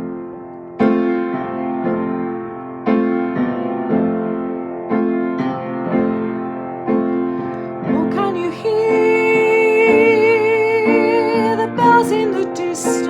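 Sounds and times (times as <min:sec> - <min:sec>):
piano chords ringing: 0:00.0 - 0:13.0.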